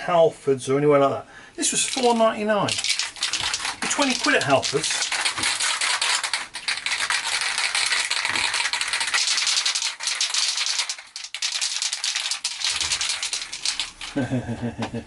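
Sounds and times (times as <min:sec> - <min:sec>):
spray can ball rattling: 0:01.6 - 0:14.3.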